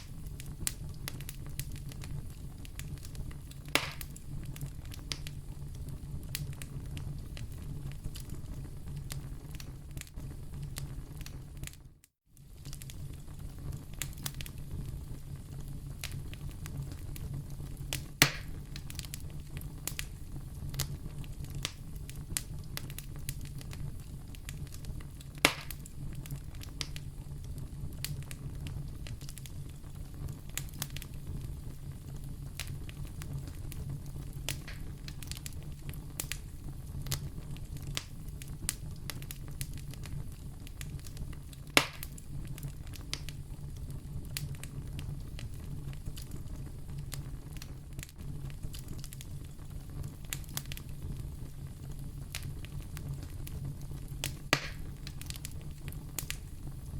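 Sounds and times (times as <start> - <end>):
fire crackling in fireplace: 0.0 - 56.9.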